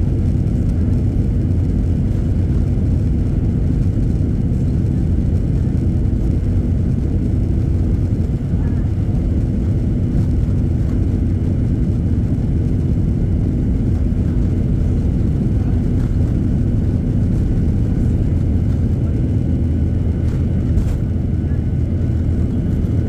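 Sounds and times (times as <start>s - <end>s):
airliner engine and airflow rumble: 0.0s - 23.0s.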